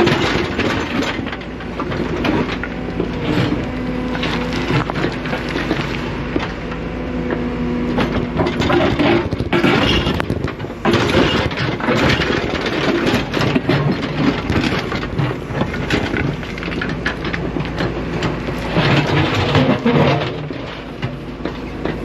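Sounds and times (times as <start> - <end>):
excavator bucket scraping gravel: 0.0 - 22.0
excavator engine running: 0.0 - 22.0.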